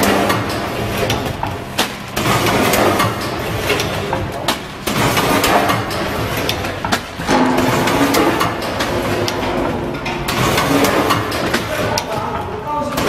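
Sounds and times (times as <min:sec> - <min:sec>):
machine sharp knock: 0:00.0 - 0:13.0
packing machine running: 0:00.0 - 0:13.0.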